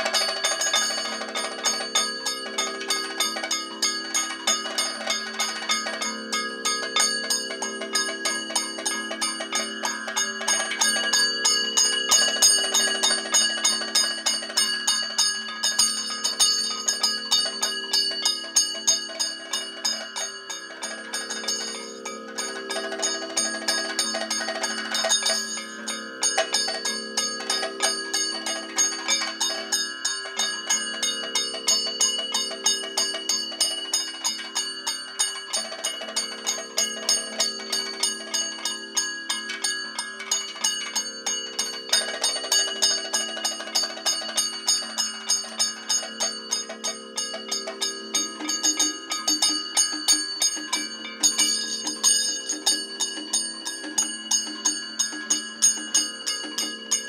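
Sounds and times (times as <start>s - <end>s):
gong and cymbals struck: 0.0s - 57.0s.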